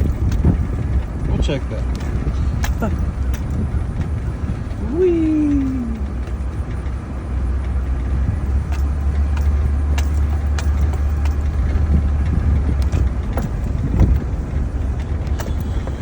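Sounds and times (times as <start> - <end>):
knocks and rattles over bumps: 0.0 - 16.0
truck engine and road rumble: 0.0 - 16.0.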